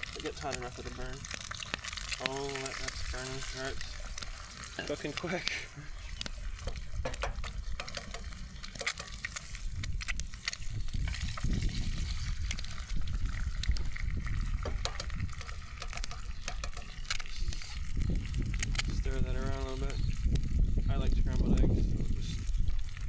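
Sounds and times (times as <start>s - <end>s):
eggs sizzling with pops: 0.0s - 23.0s.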